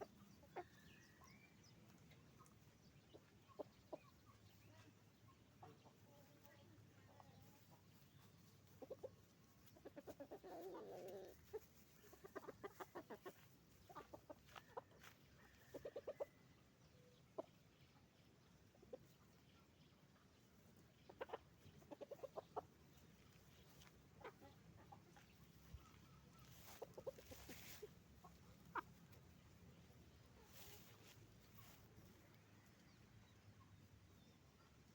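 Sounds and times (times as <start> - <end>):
hens clucking: 0.0 - 34.9.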